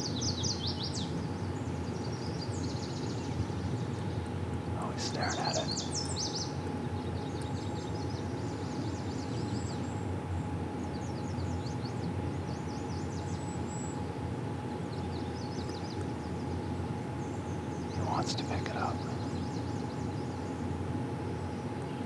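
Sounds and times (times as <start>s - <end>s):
birds chirping: 0.0s - 22.0s
faint constant hum: 0.0s - 22.0s
low outdoor rumble: 0.0s - 22.0s.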